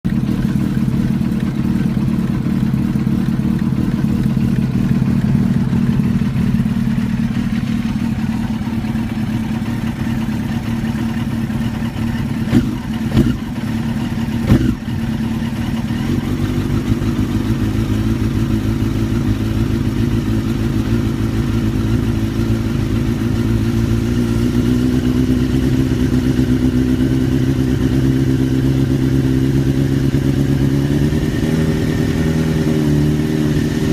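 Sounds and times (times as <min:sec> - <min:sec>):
motorcycle engine running at low revs: 0:00.0 - 0:33.9.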